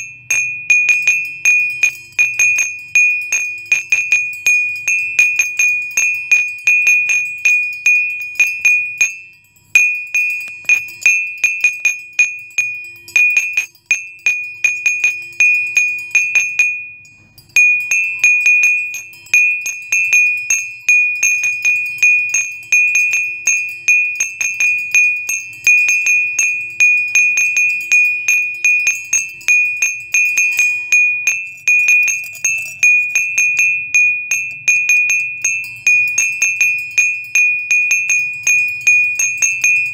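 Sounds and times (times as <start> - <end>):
small bell ringing: 0.0 - 39.9.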